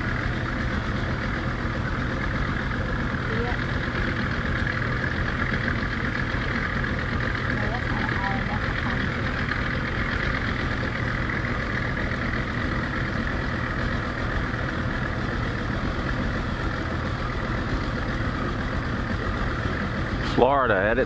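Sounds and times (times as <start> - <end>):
boat motor running: 0.0 - 21.0.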